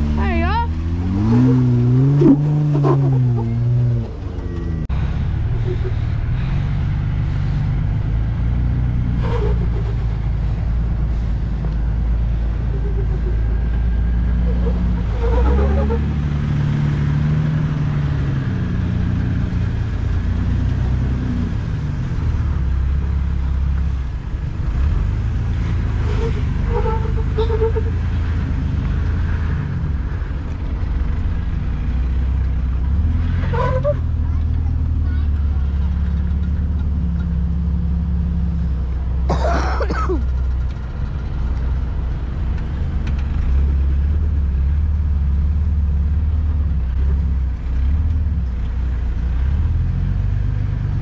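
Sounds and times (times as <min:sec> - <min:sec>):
vehicle engine running at low revs: 0:00.0 - 0:51.0.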